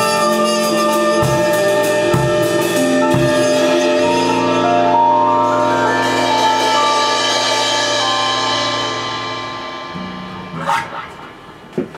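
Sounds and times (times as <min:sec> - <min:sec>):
held closing music chord: 0:00.0 - 0:11.7.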